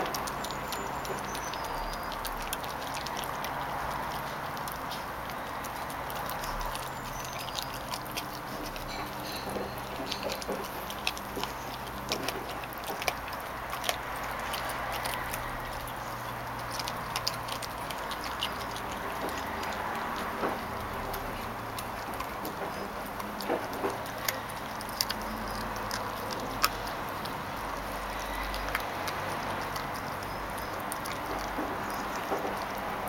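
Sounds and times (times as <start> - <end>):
puppy chewing bone: 0.0 - 33.0.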